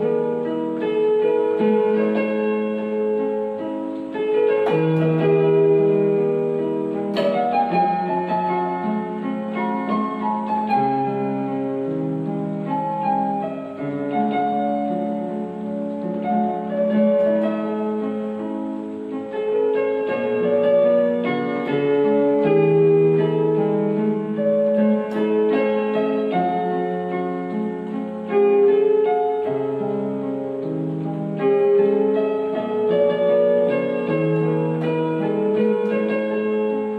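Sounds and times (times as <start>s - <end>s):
solo piano music: 0.0s - 36.9s.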